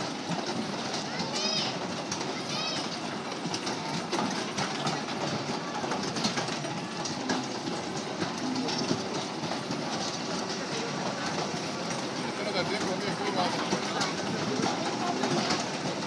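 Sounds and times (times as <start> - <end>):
carousel machinery rumbling: 0.0 - 16.0
small rattles and clicks: 0.0 - 16.0.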